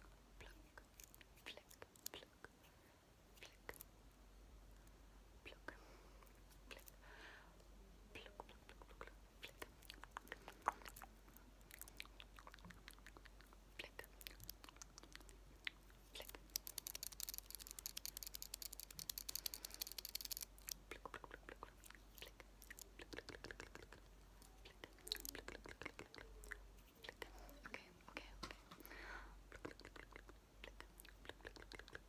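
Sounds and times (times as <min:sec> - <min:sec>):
soft mouth sounds: 0:00.0 - 0:04.0, 0:04.8 - 0:28.6, 0:29.3 - 0:32.0.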